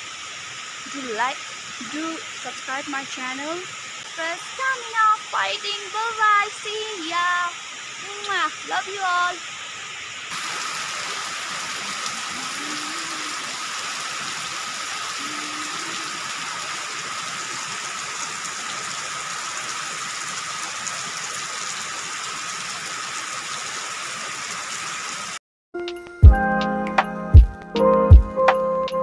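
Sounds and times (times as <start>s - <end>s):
rain falling on trees: 0.0s - 25.4s.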